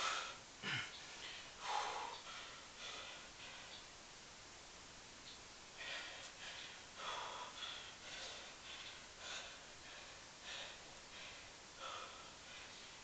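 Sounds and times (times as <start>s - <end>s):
man breathing hard: 0.0s - 3.8s, 5.7s - 13.0s.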